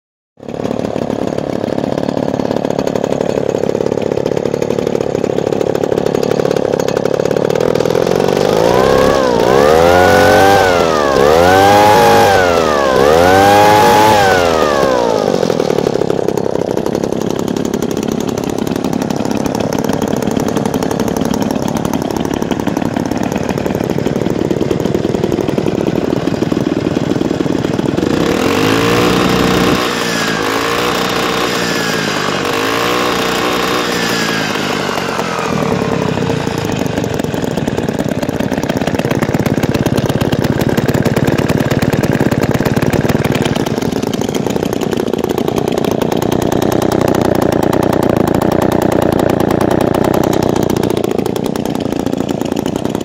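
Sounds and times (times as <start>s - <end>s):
chainsaw engine idling and revving: 0.4s - 53.0s.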